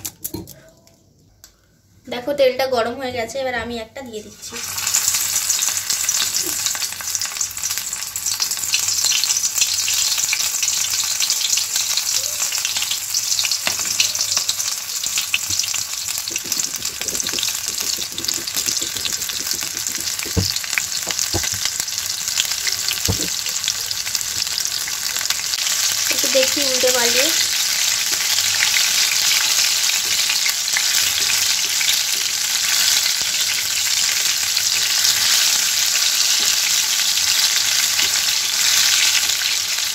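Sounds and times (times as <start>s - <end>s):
food deep-frying in oil: 4.2s - 39.9s.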